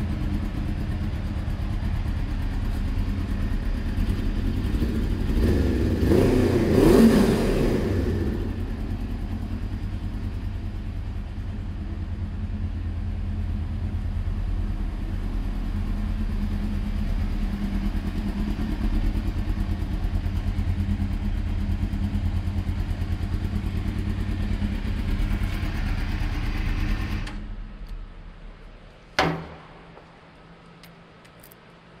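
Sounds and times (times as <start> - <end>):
motorcycle engine idling: 0.0 - 31.2.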